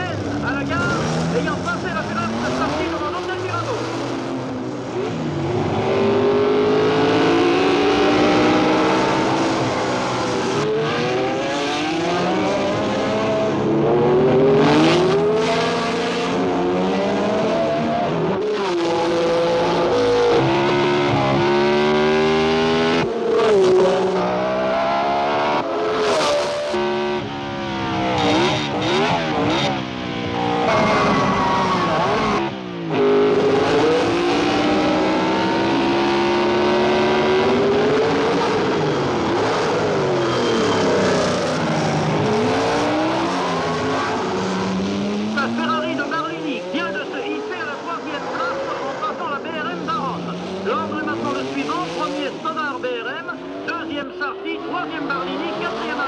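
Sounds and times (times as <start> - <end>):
racing car engines at full throttle: 0.0 - 56.0.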